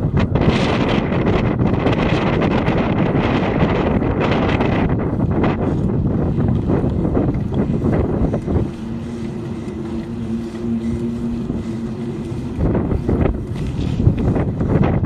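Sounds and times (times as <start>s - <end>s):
low engine hum: 0.0s - 15.0s
wind buffeting microphone: 0.0s - 15.0s.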